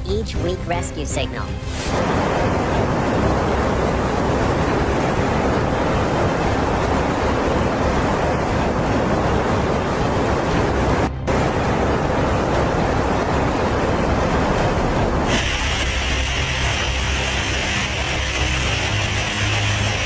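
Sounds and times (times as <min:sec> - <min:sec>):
loud rush of water: 0:01.6 - 0:20.0.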